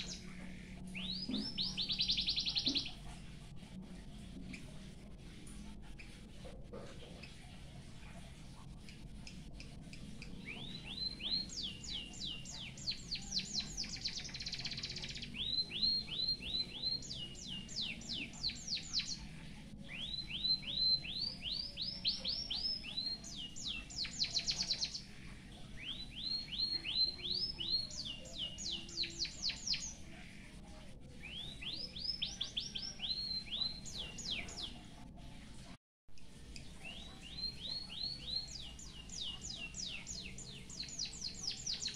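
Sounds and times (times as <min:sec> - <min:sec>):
bird chirping song: 0:00.0 - 0:35.7, 0:36.3 - 0:41.9.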